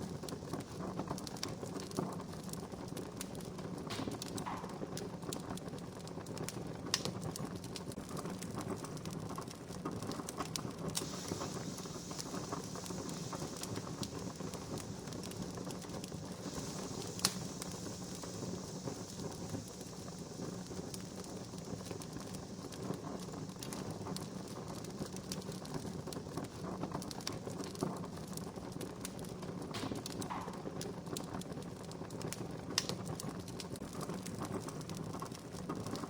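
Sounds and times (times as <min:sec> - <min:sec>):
fire popping and snapping: 0:00.0 - 0:36.0
wood fire crackling: 0:00.0 - 0:36.0.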